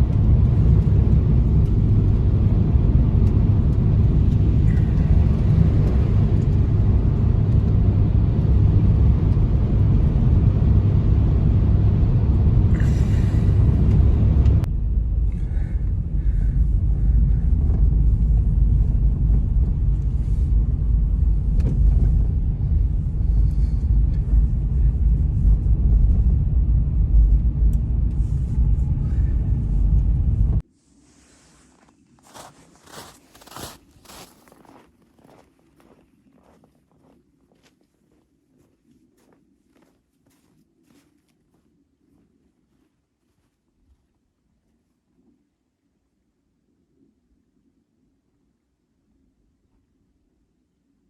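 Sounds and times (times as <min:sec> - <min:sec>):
blizzard wind buffeting microphone: 0:00.0 - 0:43.9.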